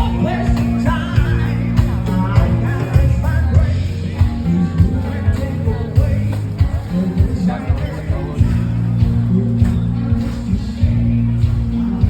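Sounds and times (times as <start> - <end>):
song with band and beat: 0.0 - 12.0.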